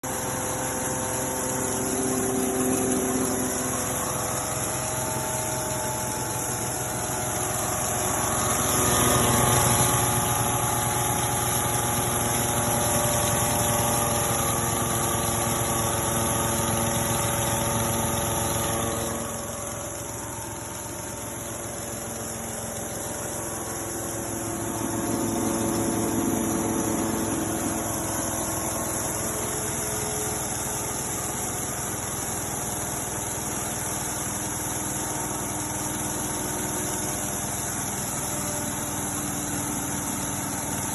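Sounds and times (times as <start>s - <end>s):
rice husk machine engine running: 0.0s - 40.9s.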